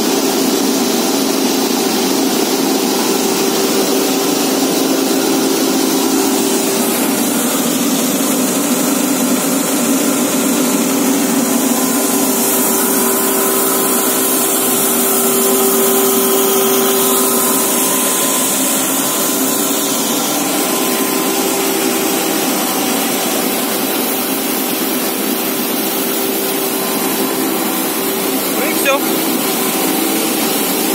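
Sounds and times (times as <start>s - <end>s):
processing machinery humming: 0.0s - 30.9s.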